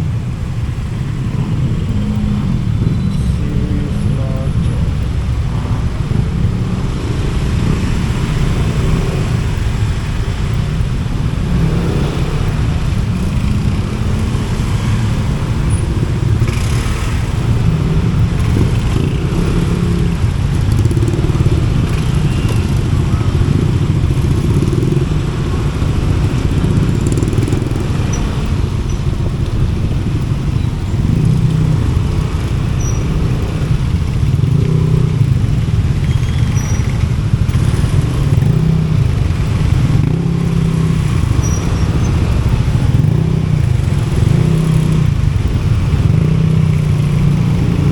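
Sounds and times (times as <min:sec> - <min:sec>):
motorcycle engines: 0:00.0 - 0:47.9
road traffic rumble: 0:00.0 - 0:47.9.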